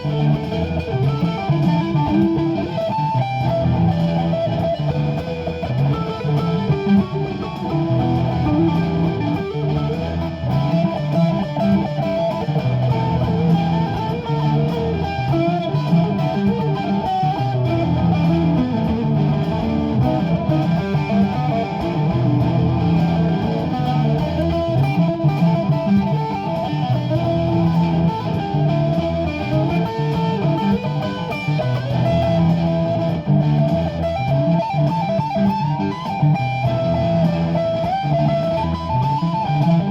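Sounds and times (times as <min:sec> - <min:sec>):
repeating low bass loop: 0:00.0 - 0:35.3
electric guitar lines: 0:00.0 - 0:39.9.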